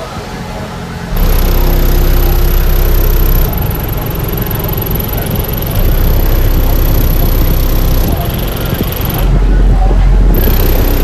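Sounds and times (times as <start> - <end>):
loud deep bass from subwoofer: 1.1 - 11.0.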